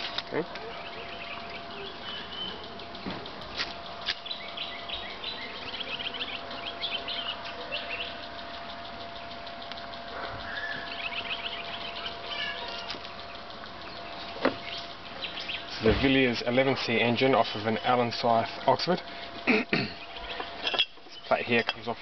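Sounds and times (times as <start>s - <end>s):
birds chirping and singing: 0.0s - 22.0s
faint steady hum: 0.0s - 22.0s.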